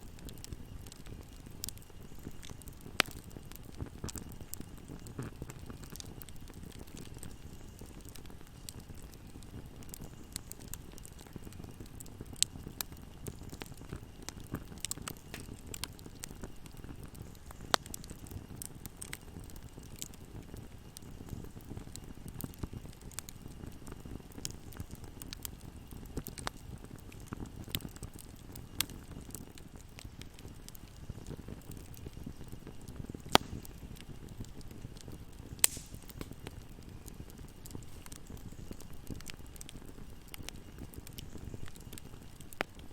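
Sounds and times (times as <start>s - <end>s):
loud pops of fire: 0.0s - 42.9s
wood fire burning: 0.0s - 42.9s.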